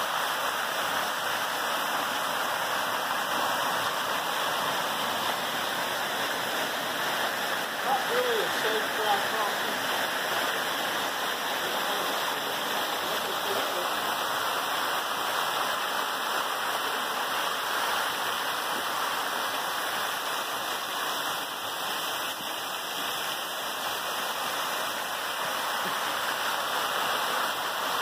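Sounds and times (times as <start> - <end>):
waterfall splashing on ice: 0.0 - 28.0.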